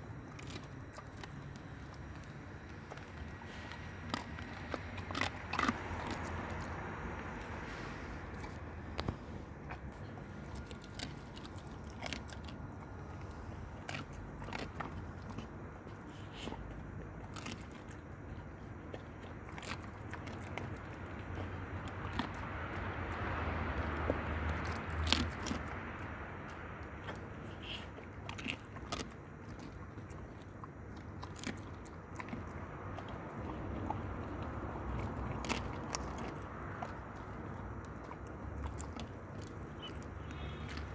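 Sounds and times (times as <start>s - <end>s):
dog crunching bones: 0.0s - 40.9s.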